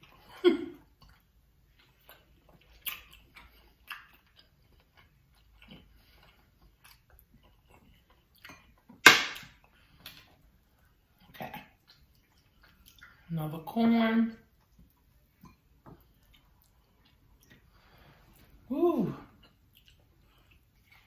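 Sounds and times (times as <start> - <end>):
person chewing: 0.0 - 13.3, 14.5 - 21.0.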